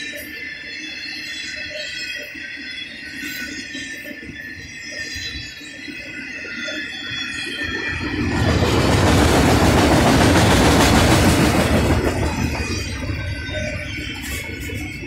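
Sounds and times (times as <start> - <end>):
freight train rolling past: 0.0 - 15.0
high wheel squeal: 0.0 - 15.0.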